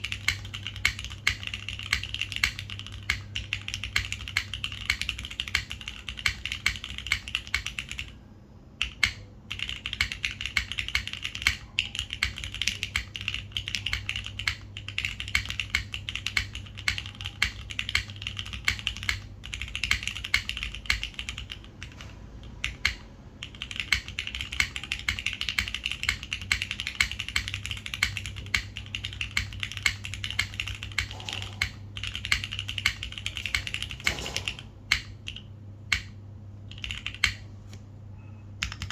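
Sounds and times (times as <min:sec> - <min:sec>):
typing on mechanical keyboard: 0:00.0 - 0:08.2, 0:08.8 - 0:37.4, 0:38.6 - 0:38.9.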